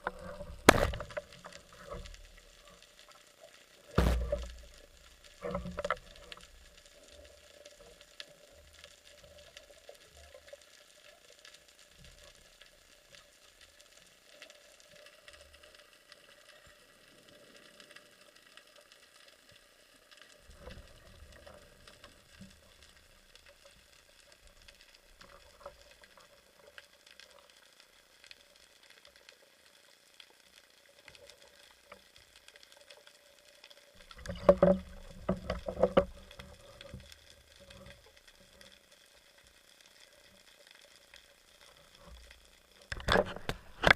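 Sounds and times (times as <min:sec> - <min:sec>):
underwater crackling and ticking: 0:00.0 - 0:43.9.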